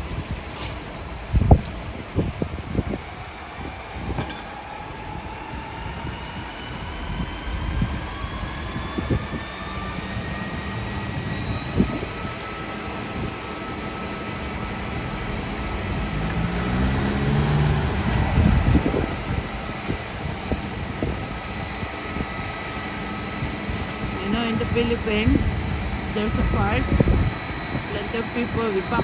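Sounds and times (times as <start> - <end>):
aircraft engine rumble: 0.0 - 29.0.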